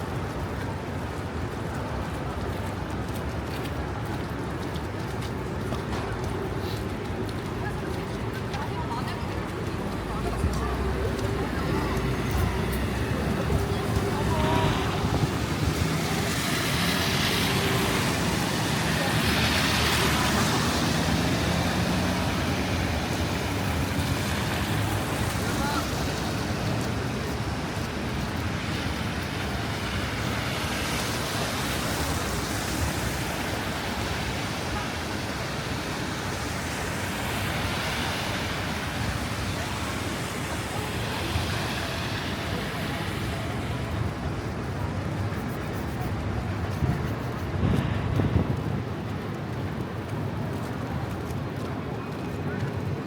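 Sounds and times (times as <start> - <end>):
distant traffic: 0.0 - 53.0
wind: 0.0 - 53.0.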